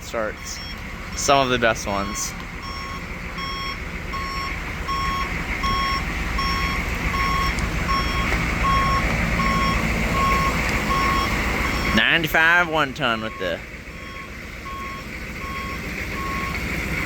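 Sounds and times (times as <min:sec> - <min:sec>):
diesel engine running rough: 0:00.0 - 0:17.0
electronic alarm beeping: 0:00.4 - 0:00.8, 0:01.9 - 0:12.2, 0:13.2 - 0:16.6.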